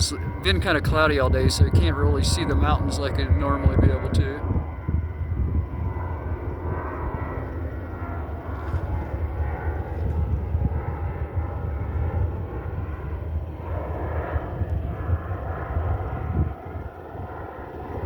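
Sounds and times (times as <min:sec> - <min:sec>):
jet airliner flying past: 0:00.0 - 0:18.0
wind buffeting microphone: 0:00.0 - 0:18.0.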